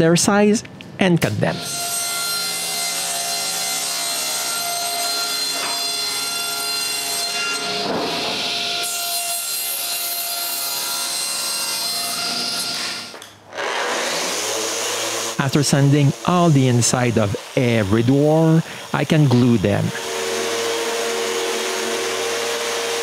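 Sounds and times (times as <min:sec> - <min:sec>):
power saw cutting wood: 0:01.5 - 0:23.0.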